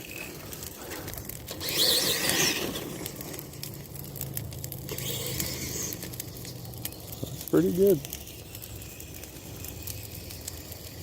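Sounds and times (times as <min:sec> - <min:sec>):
clicks and scrapes from tyres: 0:00.0 - 0:11.0.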